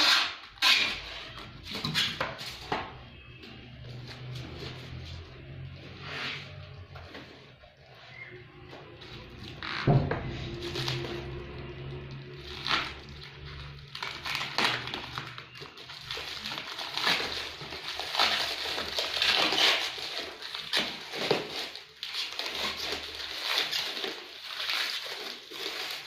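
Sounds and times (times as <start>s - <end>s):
rustling and scraping packaging: 0.0s - 26.0s.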